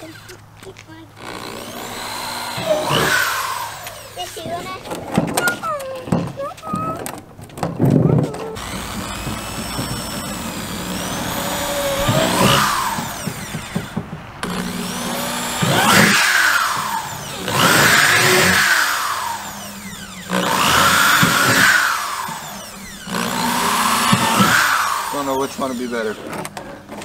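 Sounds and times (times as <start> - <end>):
electric drill boring plastic: 0.0 - 0.4, 1.2 - 6.8, 8.2 - 27.0.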